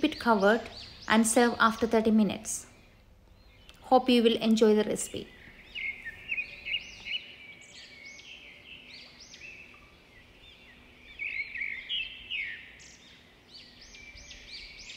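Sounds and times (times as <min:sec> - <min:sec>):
birds chirping: 0:00.0 - 0:14.9
faint steady hum: 0:00.0 - 0:14.9.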